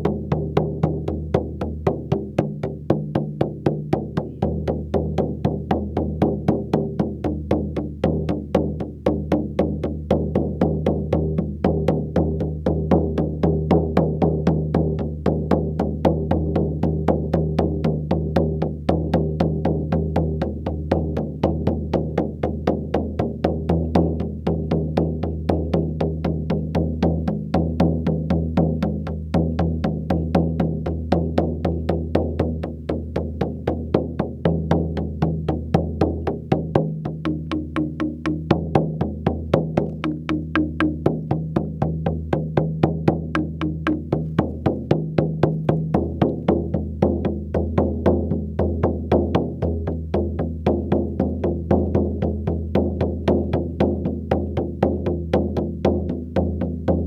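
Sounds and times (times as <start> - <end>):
hoop drum beaten rhythmically: 0.0 - 57.0.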